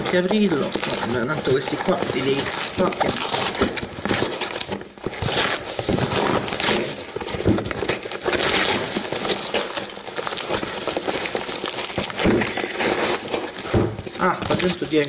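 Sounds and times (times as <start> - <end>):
cardboard tearing: 0.0 - 15.0
paper crinkling: 0.0 - 15.0.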